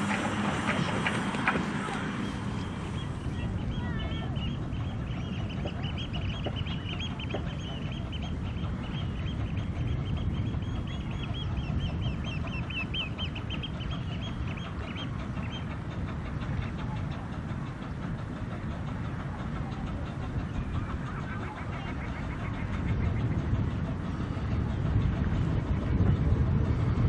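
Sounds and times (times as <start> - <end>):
birds chattering calls: 0.0 - 24.8
low steady rumble: 0.0 - 27.0.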